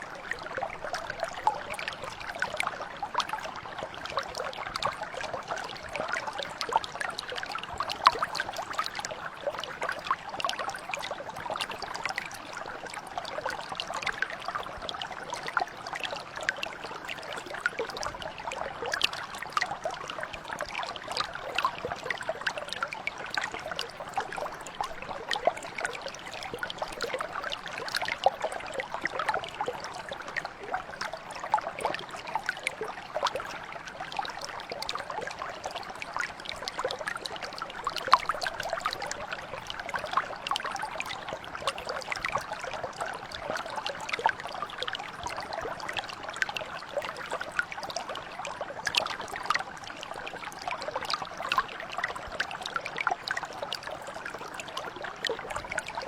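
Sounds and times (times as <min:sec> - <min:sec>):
brook water splashing over stones: 0:00.0 - 0:56.0.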